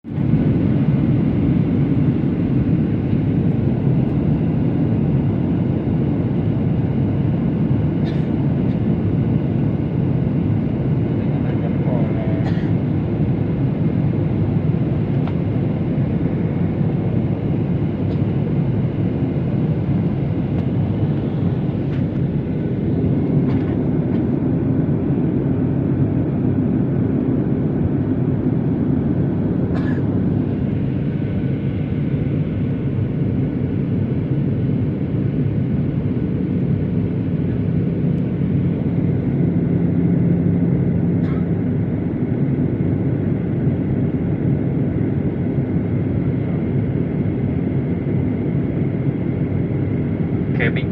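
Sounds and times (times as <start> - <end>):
airliner cabin engine noise: 0.1 - 50.9.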